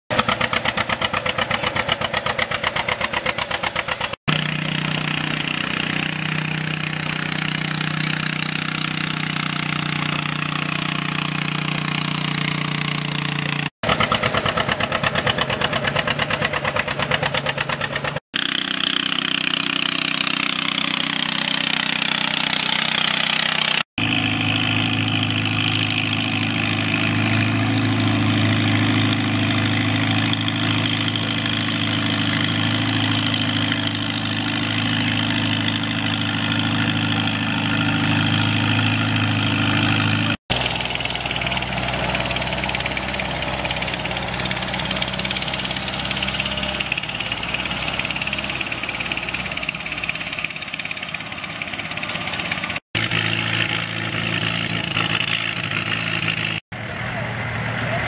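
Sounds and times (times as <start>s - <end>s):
tractor engine popping exhaust: 0.1s - 56.6s
tractor engine drone with whine: 0.1s - 58.0s.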